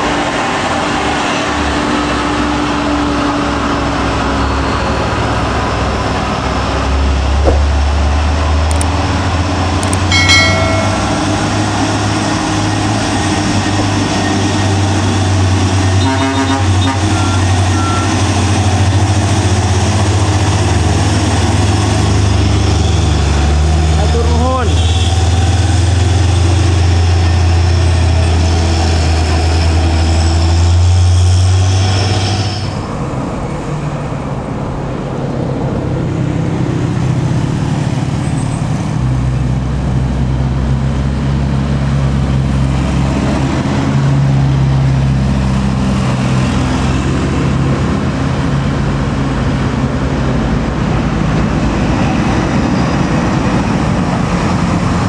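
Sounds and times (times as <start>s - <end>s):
truck diesel engine labouring: 0.0s - 55.0s.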